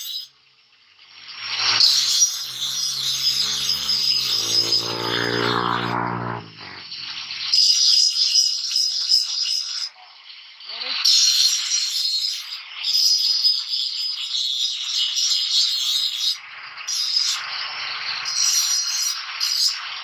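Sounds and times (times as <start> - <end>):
angle grinder grinding metal: 1.1 - 10.0, 11.0 - 20.0.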